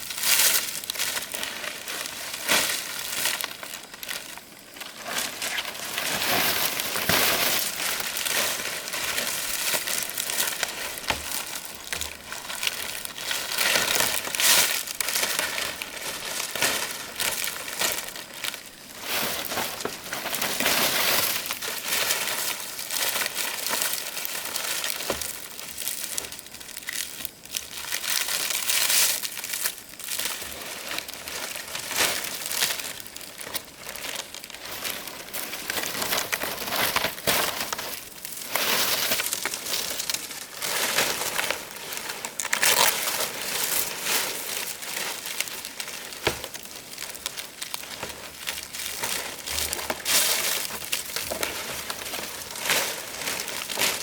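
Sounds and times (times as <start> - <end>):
dry palm leaves rustling: 0.0 - 54.0.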